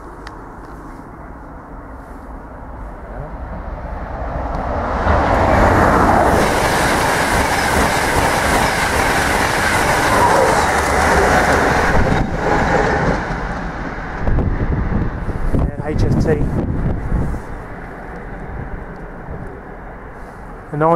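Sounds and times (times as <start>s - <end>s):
train passing at speed: 0.0s - 20.9s.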